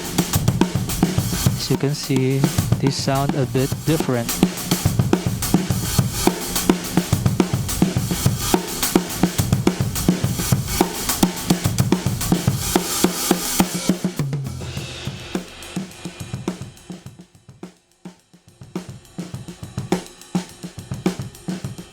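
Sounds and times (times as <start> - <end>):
drum kit groove: 0.0 - 21.9.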